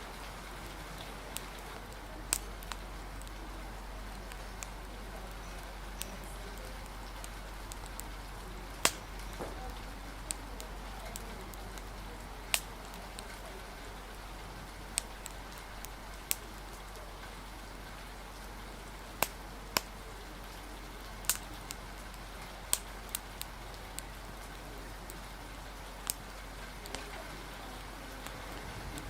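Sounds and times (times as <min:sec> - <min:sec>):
fire crackling and popping: 0:00.0 - 0:29.0
rain hissing: 0:00.0 - 0:29.0.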